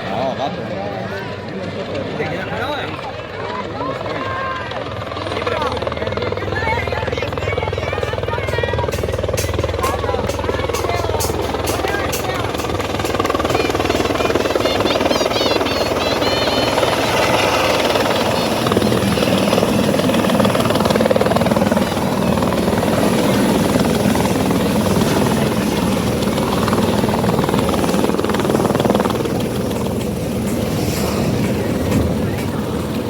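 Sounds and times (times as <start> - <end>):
helicopter engine and rotor: 0.0 - 33.0.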